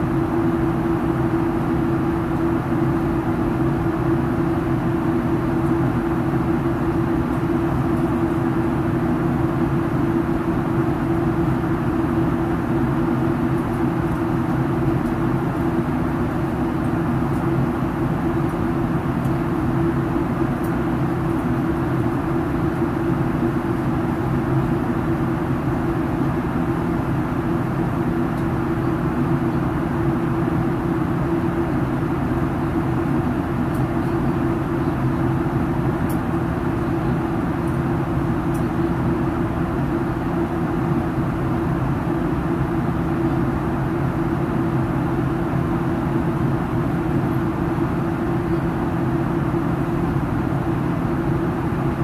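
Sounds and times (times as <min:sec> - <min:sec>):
airliner cabin roar: 0:00.0 - 0:52.0.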